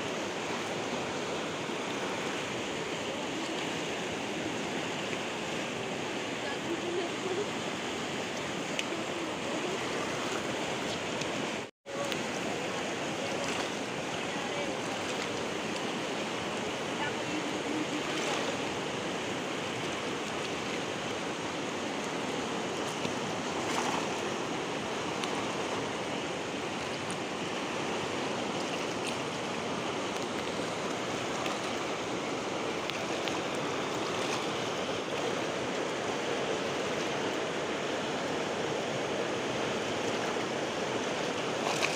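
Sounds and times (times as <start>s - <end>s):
river current rushing: 0.0s - 41.9s.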